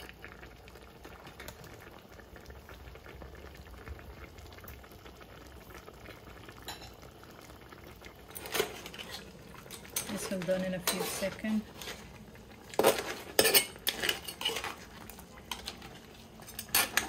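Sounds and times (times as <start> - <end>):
curry bubbling and popping: 0.0 - 17.0.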